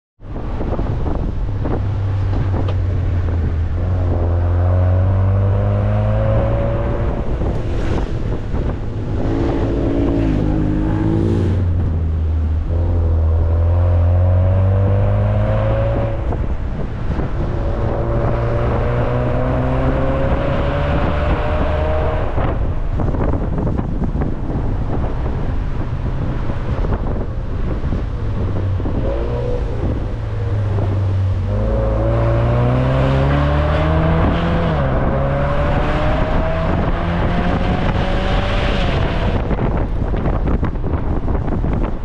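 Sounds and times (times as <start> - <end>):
road and wind noise: 0.2 - 42.0
car engine revving: 1.0 - 24.2, 24.9 - 41.0.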